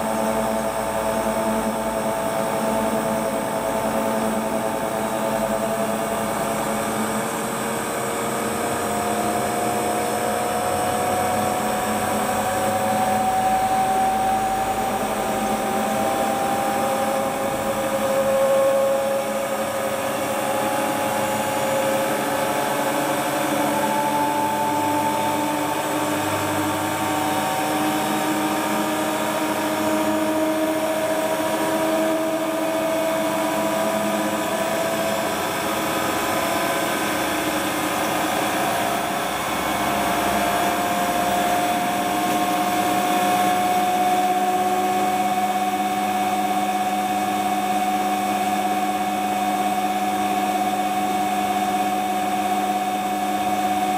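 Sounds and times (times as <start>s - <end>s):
washing machine motor whine: 0.0s - 53.9s.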